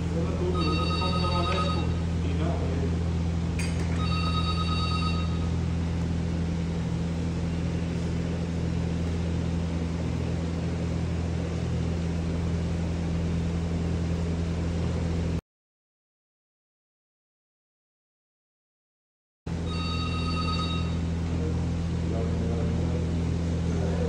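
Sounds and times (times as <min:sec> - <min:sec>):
low machine hum: 0:00.0 - 0:15.4, 0:19.5 - 0:24.0.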